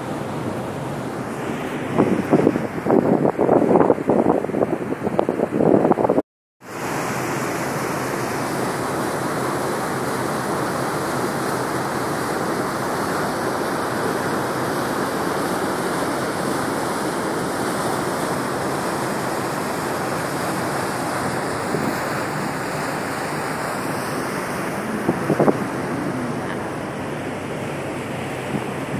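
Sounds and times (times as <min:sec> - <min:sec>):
boat wake rushing along hull: 0:00.0 - 0:28.9.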